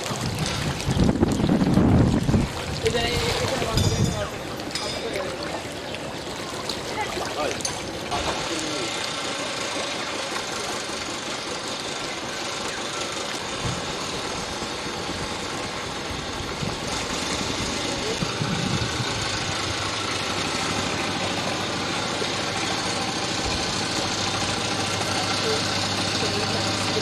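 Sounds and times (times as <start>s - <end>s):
engine humming: 0.0s - 27.0s.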